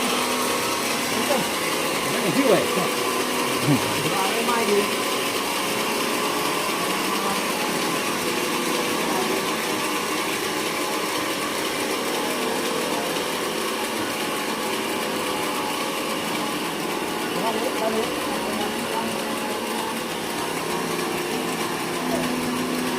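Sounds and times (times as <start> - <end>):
sawmill machinery running: 0.0 - 22.9.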